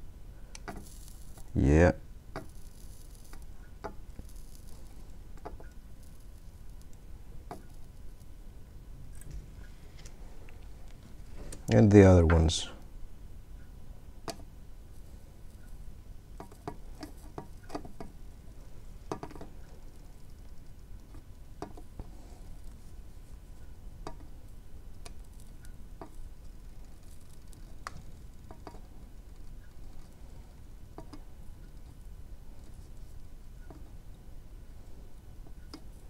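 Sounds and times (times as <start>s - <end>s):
low steady hum: 0.0s - 36.0s
solder ticking and crackling: 0.5s - 1.7s, 2.3s - 8.4s, 13.5s - 36.0s.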